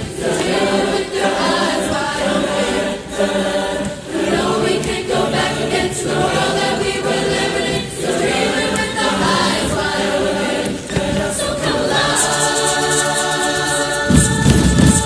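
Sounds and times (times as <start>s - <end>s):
chorus singing a cappella: 0.0s - 15.0s.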